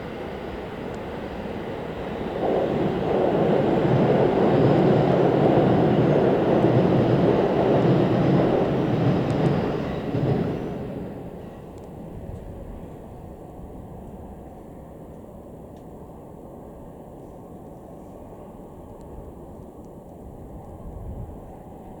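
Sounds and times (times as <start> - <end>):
diesel train passing by: 0.0 - 22.0.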